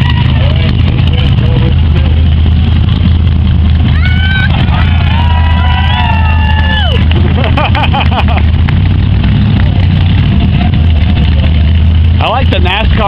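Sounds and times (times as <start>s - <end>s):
hot rod engine rumbling: 0.0s - 13.0s.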